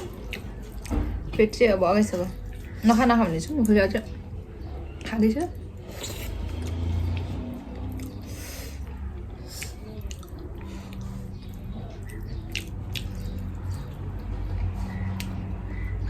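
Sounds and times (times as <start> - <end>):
wet chewing: 0.0 - 15.9.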